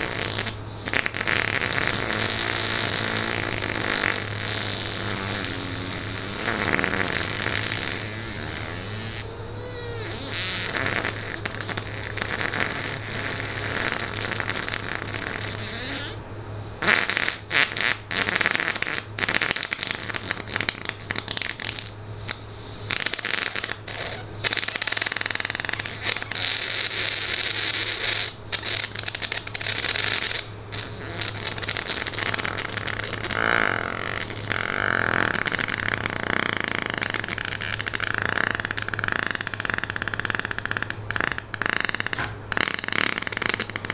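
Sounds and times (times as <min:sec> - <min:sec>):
long sputtering fart: 0:00.0 - 0:43.9.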